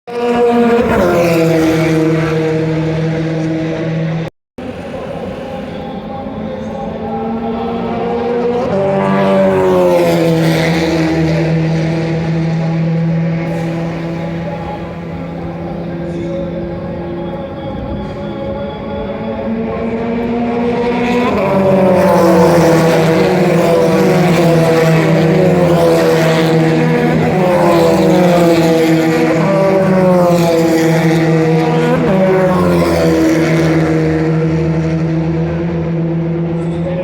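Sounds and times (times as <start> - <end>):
race cars passing at high revs: 0.1 - 37.0.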